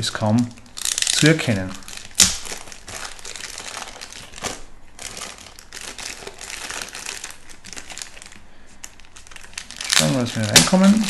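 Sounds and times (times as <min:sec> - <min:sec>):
plastic bag crinkling: 0:00.5 - 0:11.0.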